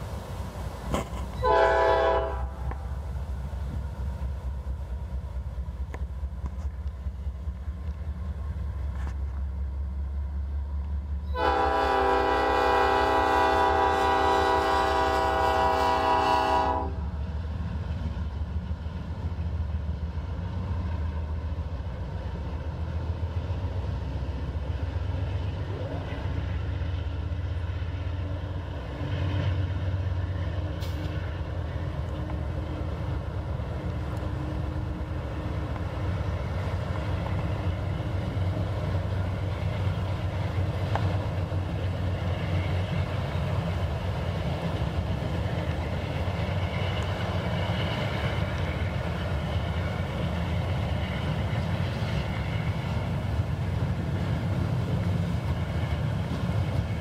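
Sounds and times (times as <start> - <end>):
steel train wheels on rails: 0.0 - 57.0.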